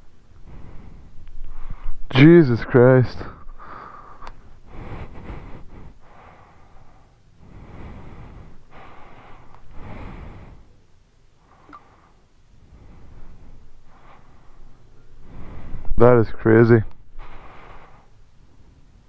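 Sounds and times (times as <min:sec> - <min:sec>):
person breathing: 0:00.3 - 0:02.0, 0:03.1 - 0:16.0, 0:17.1 - 0:19.0.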